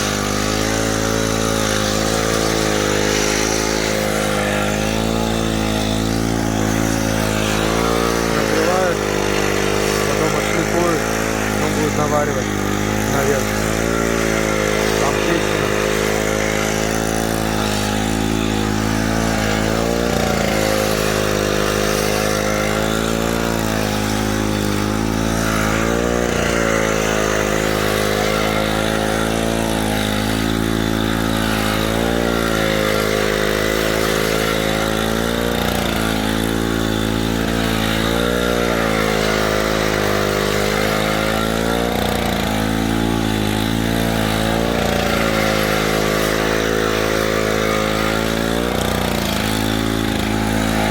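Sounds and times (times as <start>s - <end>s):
engine running under load: 0.0s - 50.9s.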